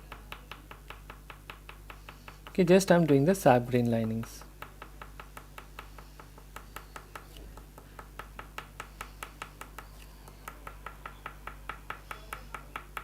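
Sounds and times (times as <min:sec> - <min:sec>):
pastel strokes ticking on paper: 0:00.1 - 0:13.0.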